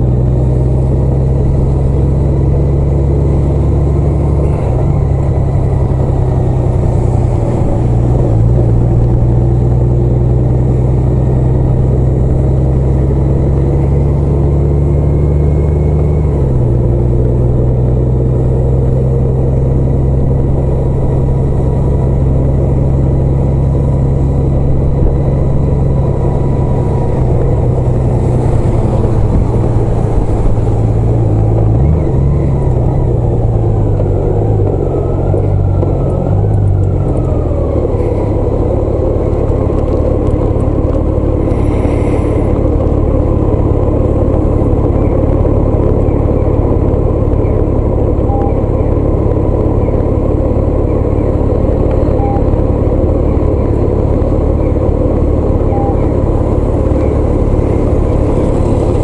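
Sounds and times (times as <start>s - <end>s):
vehicle engine hum: 0.0s - 59.0s.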